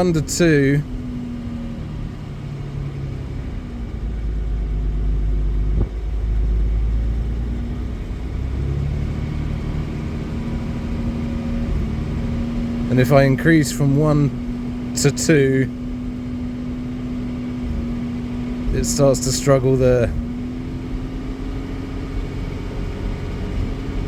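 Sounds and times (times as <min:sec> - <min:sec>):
car engine rumbling at low revs: 0:00.0 - 0:24.0.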